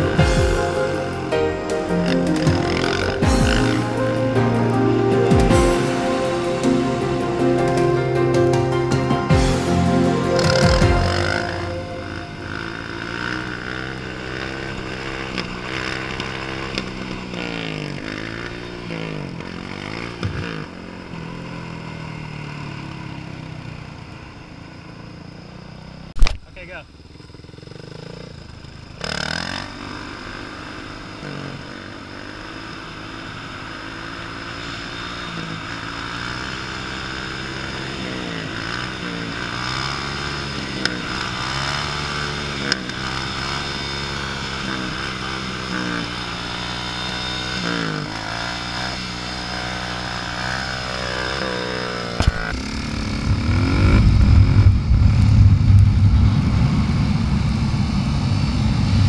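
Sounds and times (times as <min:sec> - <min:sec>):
low rough motorcycle engine rumble: 0:00.0 - 0:59.0
motorcycle engine revving: 0:00.0 - 0:59.0.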